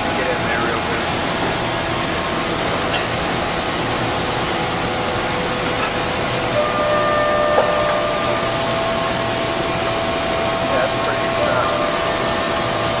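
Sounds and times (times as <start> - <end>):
thin machine whine: 0.0 - 13.0.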